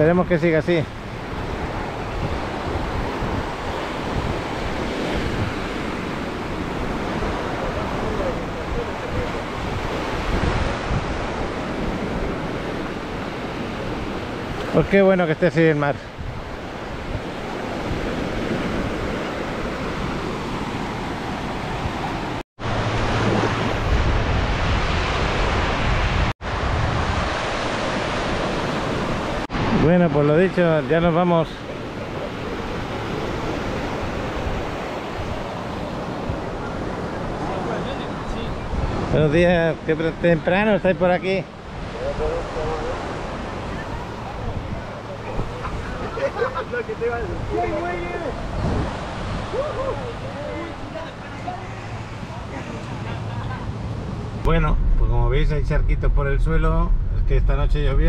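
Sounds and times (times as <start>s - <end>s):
waves washing on sand: 0.0s - 55.2s
wind rumbling on microphone: 0.8s - 14.8s, 16.0s - 30.1s, 31.6s - 40.6s, 41.3s - 58.0s.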